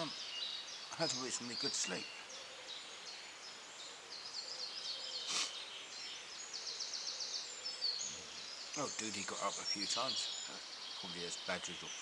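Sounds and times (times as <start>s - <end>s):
rustle: 0.0s - 12.0s
songbirds singing: 0.0s - 12.0s.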